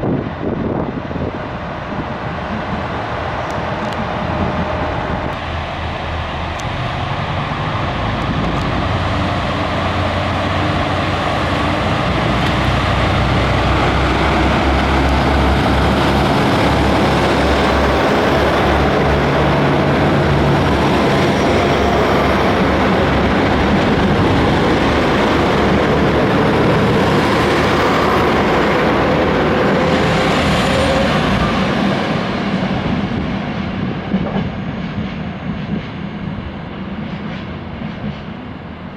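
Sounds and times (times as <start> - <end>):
train running past: 0.0 - 38.9.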